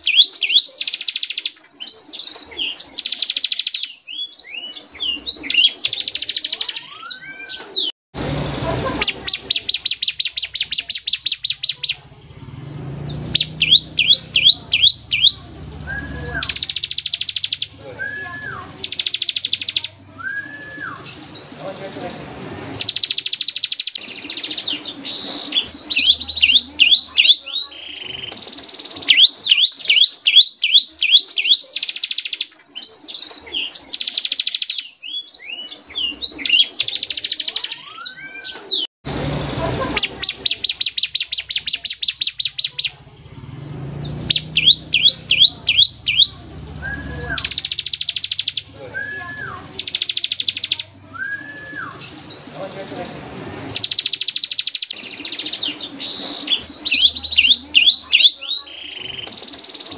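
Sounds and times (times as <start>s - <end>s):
bird singing fast trills: 0.0s - 8.0s, 8.9s - 38.9s, 39.8s - 59.9s.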